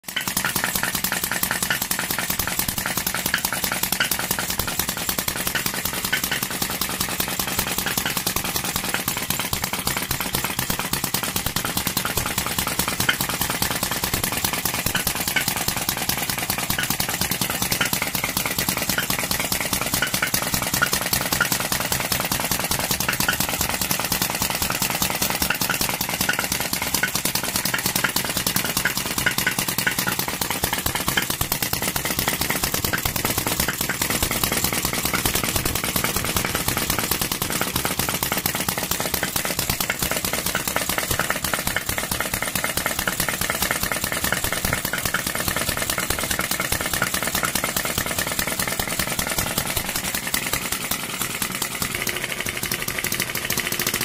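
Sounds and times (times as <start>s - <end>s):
model engine clattering: 0.0s - 54.0s.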